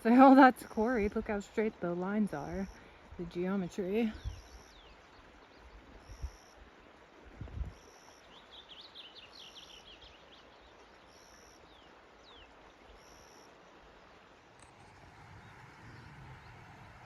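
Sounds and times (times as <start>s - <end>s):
songbird chirping: 0.0s - 6.7s, 7.6s - 17.0s.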